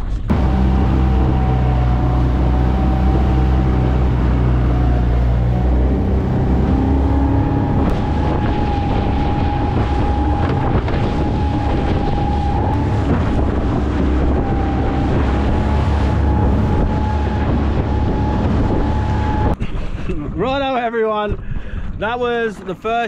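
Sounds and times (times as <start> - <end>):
wind on microphone: 0.0 - 20.4
outboard engine droning: 0.1 - 20.1
rushing water: 0.2 - 19.6.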